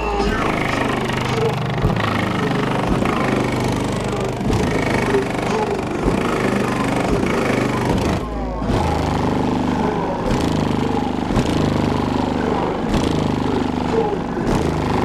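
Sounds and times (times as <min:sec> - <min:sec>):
loud bass-heavy car music: 0:00.0 - 0:15.0.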